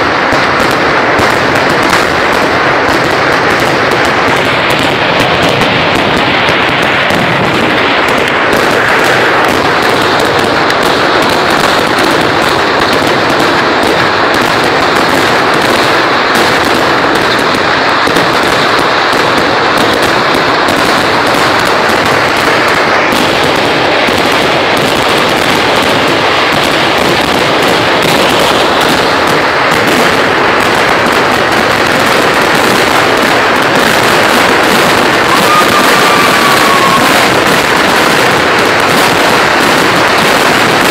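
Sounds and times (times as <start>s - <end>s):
firecracker barrage: 0.0s - 40.9s.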